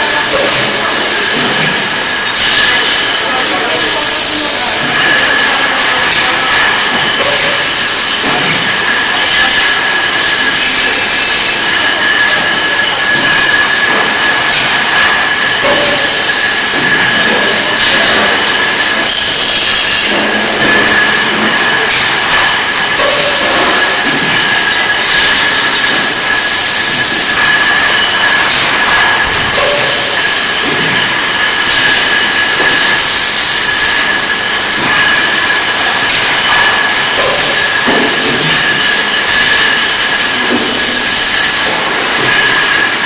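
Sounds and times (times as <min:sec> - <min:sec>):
constant high whine: 0:00.0 - 0:43.0
irregular machine clatter: 0:00.1 - 0:43.0
machine hiss: 0:00.1 - 0:43.0.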